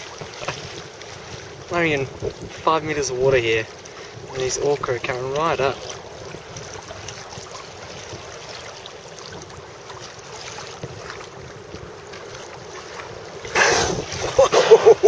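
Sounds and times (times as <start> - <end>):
water lapping around kayak: 0.0 - 15.0
wind noise on microphone: 0.0 - 15.0.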